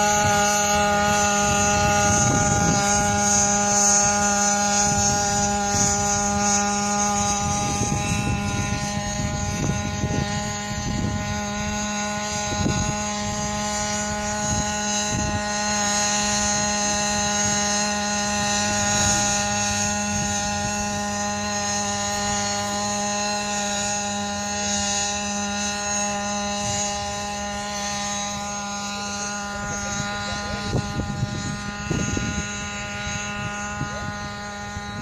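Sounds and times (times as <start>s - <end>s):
drone propellers whining: 0.0s - 35.0s
wind buffeting on microphone: 0.0s - 35.0s.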